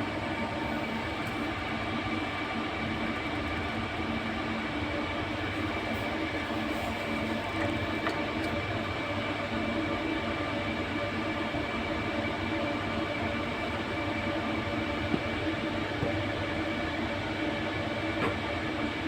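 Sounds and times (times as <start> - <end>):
air conditioning hum: 0.0 - 19.0.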